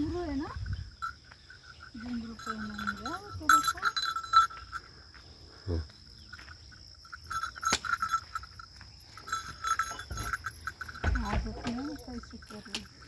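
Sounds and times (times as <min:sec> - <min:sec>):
high insect drone: 0:00.0 - 0:13.0
small bells jingling: 0:00.0 - 0:13.0.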